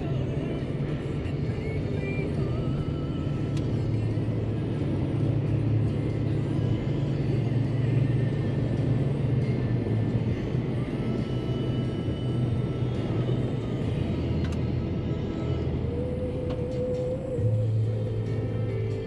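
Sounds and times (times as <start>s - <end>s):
background music: 0.0s - 19.0s
engine low rumble: 0.0s - 19.0s.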